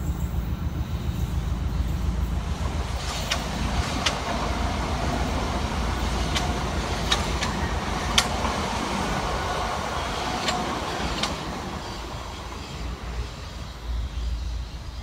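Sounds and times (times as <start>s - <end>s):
train rumbling past: 0.0s - 15.0s
wheels clicking on rails: 0.0s - 15.0s.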